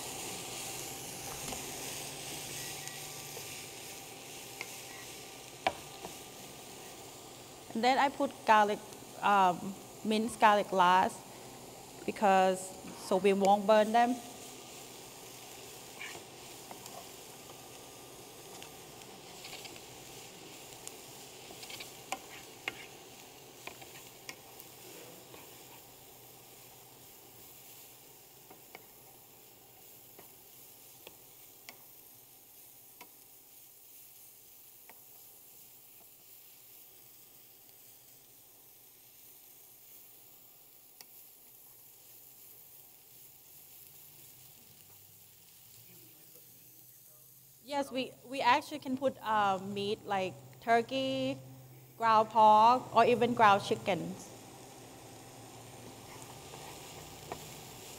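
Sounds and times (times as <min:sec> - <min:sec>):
vegetables sizzling in a skillet: 0:00.0 - 0:57.9.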